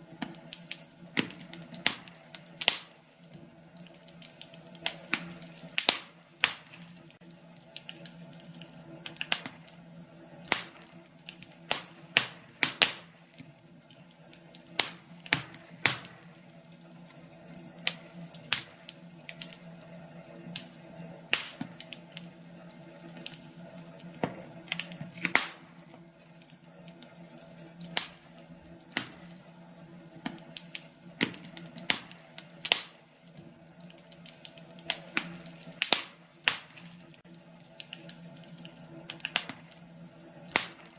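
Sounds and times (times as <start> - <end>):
faint steady hum: 0.0 - 40.9
firewood crackling and popping: 0.0 - 40.9.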